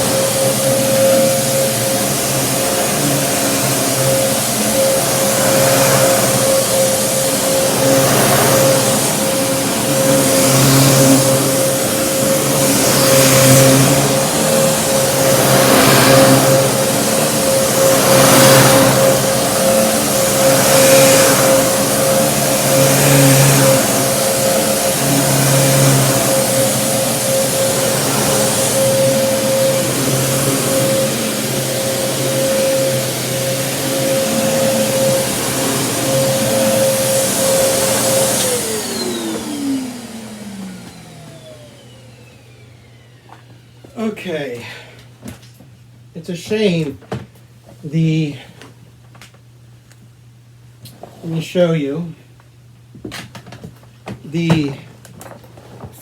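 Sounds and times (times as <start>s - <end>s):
vacuum cleaner running: 0.0s - 50.0s, 53.0s - 56.0s.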